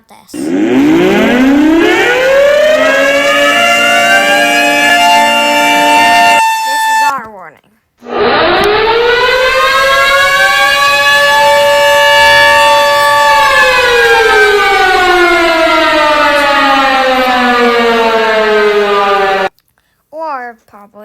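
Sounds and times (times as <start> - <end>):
tornado warning siren: 0.4 - 7.2, 8.0 - 19.5.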